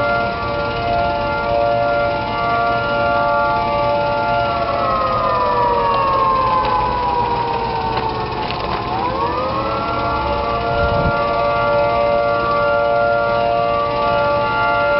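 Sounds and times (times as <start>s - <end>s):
warning siren high-low signal: 0.0s - 14.9s.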